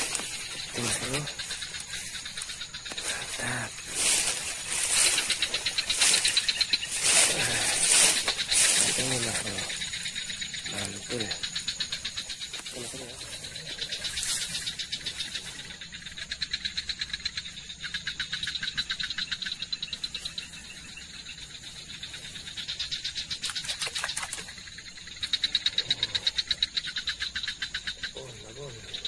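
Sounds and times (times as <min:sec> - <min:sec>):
frogs trilling: 0:00.0 - 0:29.0.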